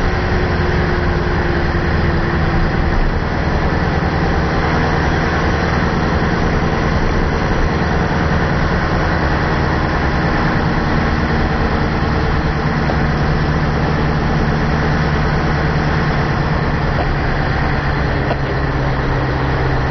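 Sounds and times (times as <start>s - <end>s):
diesel truck engine droning: 0.0s - 19.9s.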